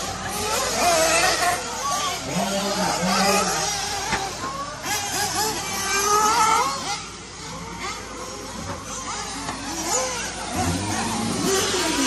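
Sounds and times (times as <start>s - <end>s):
rc buggy engines whining: 0.0s - 12.0s.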